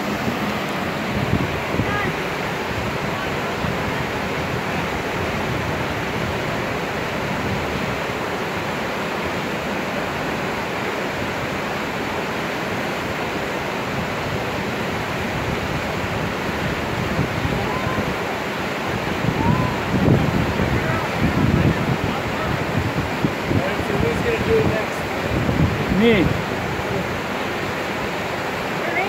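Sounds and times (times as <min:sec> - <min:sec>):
river rapids rushing: 0:00.0 - 0:29.0.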